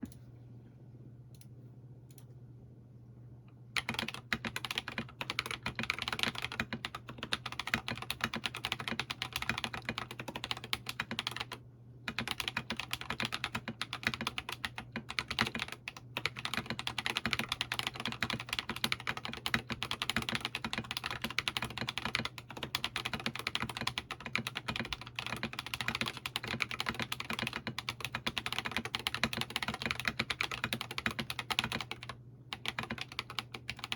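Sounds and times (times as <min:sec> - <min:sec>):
mechanical keyboard typing: 0:03.8 - 0:33.9.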